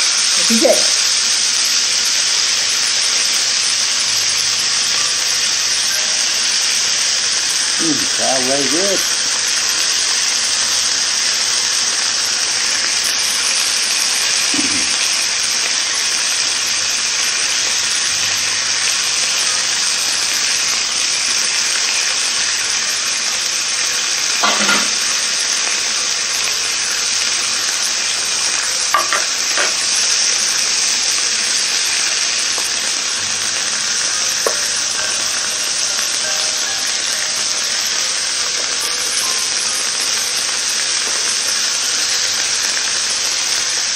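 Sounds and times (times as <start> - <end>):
food sizzling on grill: 0.0 - 43.9.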